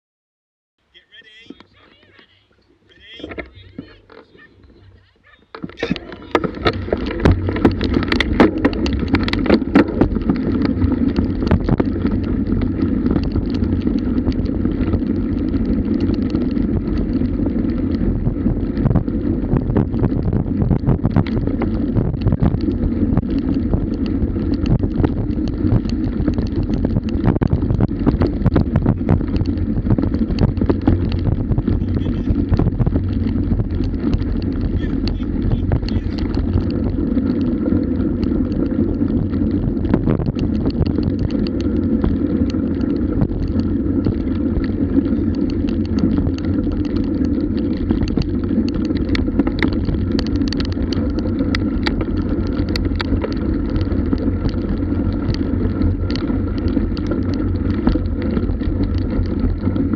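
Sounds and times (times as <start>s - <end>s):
bike rattling over grass: 1.0s - 59.9s
wind on microphone: 3.1s - 59.9s.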